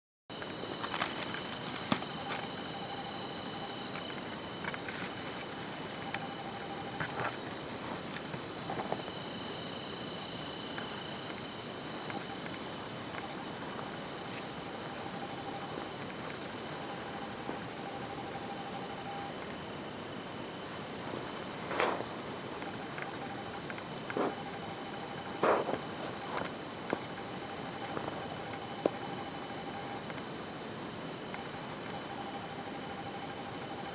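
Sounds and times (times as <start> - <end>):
night insects trilling: 0.3 - 33.9.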